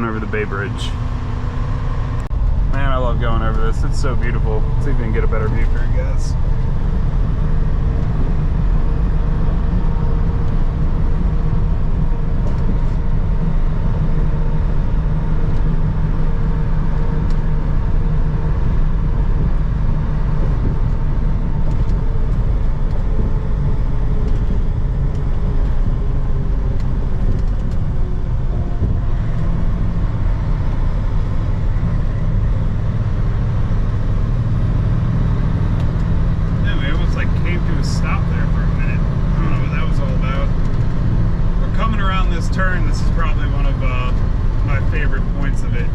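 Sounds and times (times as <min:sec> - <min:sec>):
road noise: 0:00.0 - 0:45.9
truck diesel engine drone: 0:00.0 - 0:45.9.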